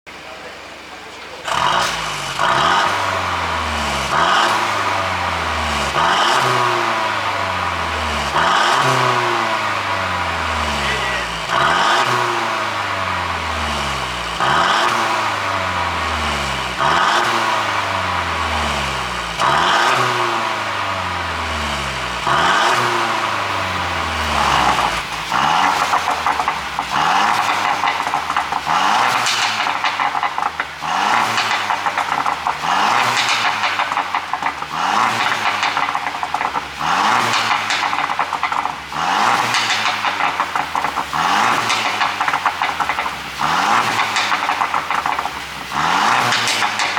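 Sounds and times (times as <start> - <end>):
car engine revving: 0.1 - 46.9
exhaust popping and crackling: 0.1 - 46.9.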